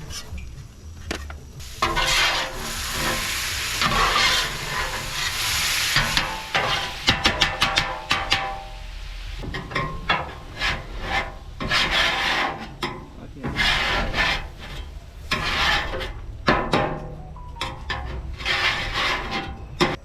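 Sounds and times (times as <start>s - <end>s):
metal spatula scraping griddle: 1.6s - 17.0s, 17.6s - 20.0s.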